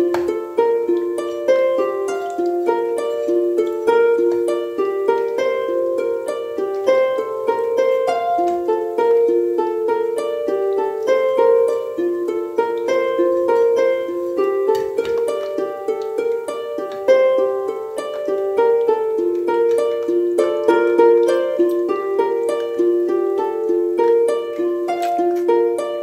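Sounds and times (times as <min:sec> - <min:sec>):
plucked string melody: 0:00.0 - 0:26.0.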